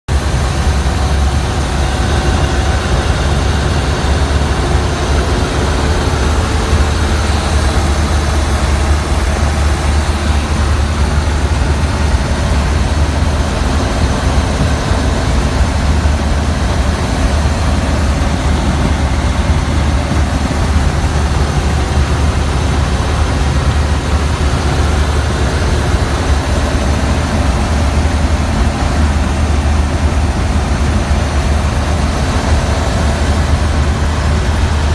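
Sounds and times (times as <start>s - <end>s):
truck engine droning: 0.1s - 34.9s.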